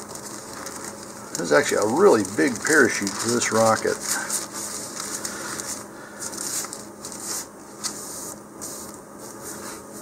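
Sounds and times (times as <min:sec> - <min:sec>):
plastic sheet crinkling: 0:00.0 - 0:09.4.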